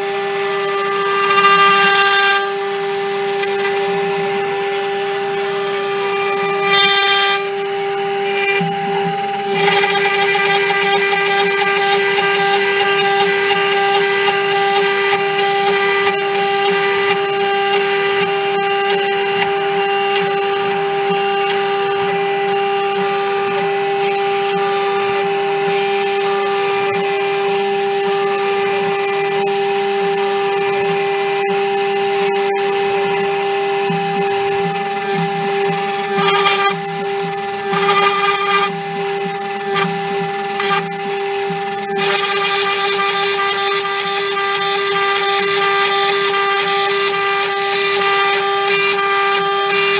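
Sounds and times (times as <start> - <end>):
end mill cutting plastic: 0.0 - 31.2, 31.9 - 49.9
router spindle whine: 0.0 - 49.9.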